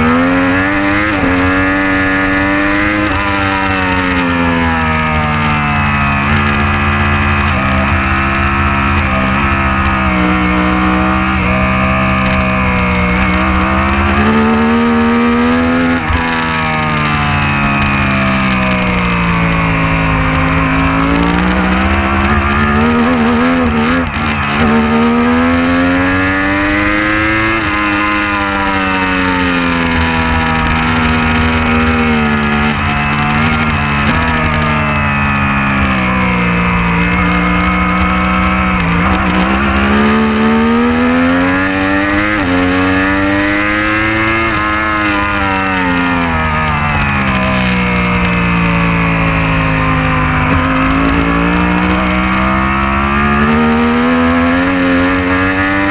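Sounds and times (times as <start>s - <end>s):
racing motorcycle engine: 0.0s - 55.9s.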